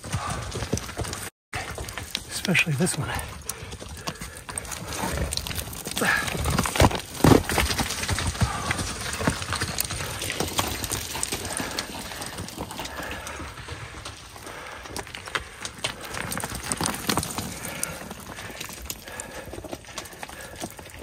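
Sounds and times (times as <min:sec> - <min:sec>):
rocks clattering downhill: 0:00.0 - 0:21.0
small stones skittering: 0:00.3 - 0:21.0.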